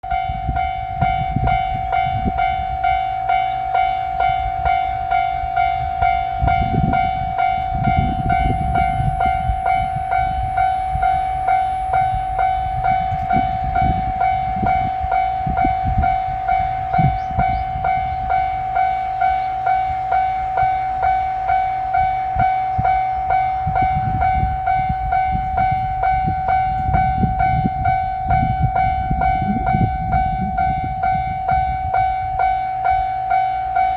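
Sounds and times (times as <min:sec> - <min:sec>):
level-crossing warning alarm: 0:00.0 - 0:33.9.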